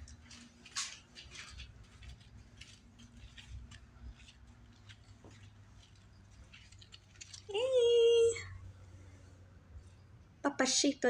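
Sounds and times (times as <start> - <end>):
light ticks and rustles: 0.0 - 10.1.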